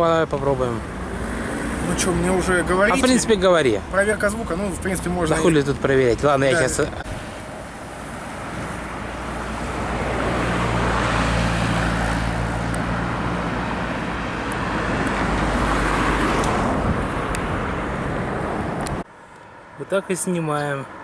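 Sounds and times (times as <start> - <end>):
street traffic passing: 0.0 - 21.0.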